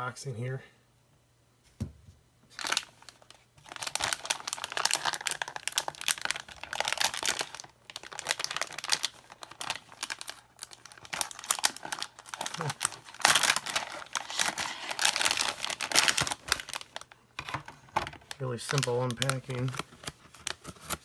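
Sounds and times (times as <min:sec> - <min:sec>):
plastic bag crinkling: 0:02.5 - 0:21.0.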